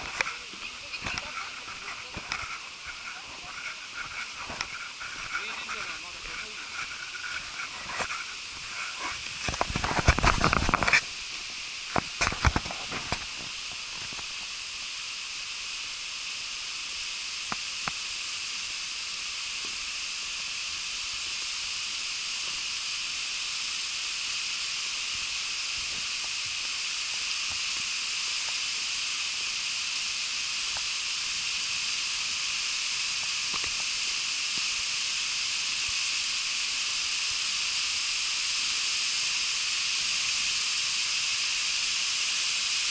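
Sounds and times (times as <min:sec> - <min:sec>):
waterfall rushing hiss: 0:00.0 - 0:42.9.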